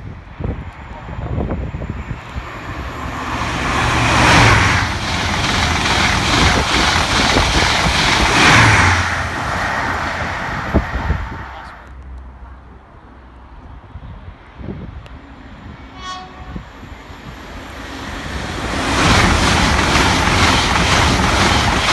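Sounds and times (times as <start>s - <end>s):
train rushing past: 0.8s - 11.9s, 14.5s - 21.9s.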